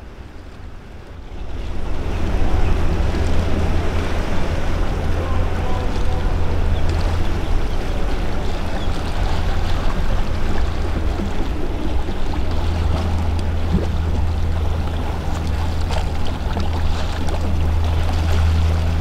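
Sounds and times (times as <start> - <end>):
boat engine rumble: 0.0 - 19.0
rushing water: 0.0 - 19.0
wind on microphone: 0.9 - 19.0.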